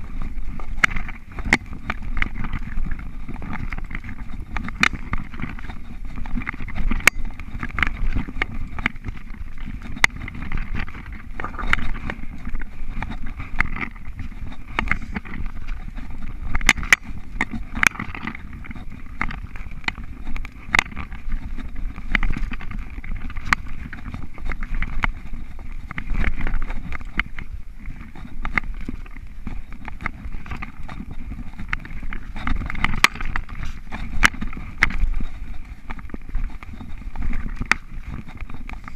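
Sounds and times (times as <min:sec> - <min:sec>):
bike clacks and rattles: 0:00.0 - 0:38.9
bike tyres rumbling on dirt: 0:00.0 - 0:38.9.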